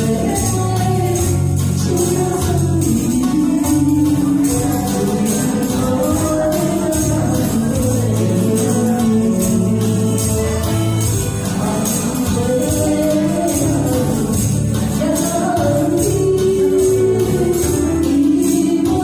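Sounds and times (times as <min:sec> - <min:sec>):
amplified backing track: 0:00.0 - 0:19.0
jingling percussion: 0:00.0 - 0:19.0
woman singing into a microphone: 0:00.0 - 0:19.0.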